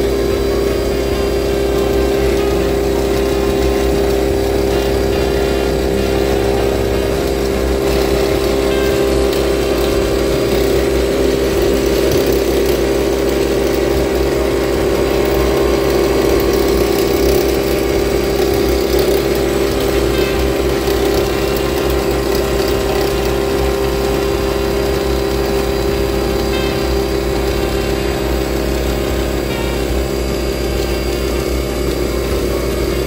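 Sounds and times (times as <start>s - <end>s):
coffee machine humming: 0.0s - 33.0s.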